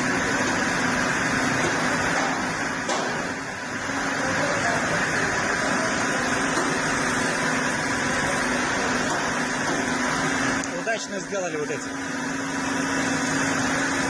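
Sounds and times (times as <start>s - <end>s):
sawmill machinery hum: 0.0s - 14.0s.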